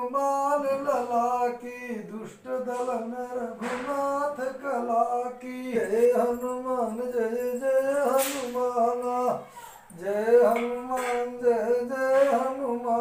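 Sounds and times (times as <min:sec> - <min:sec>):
person singing devotional hymn: 0:00.0 - 0:13.0.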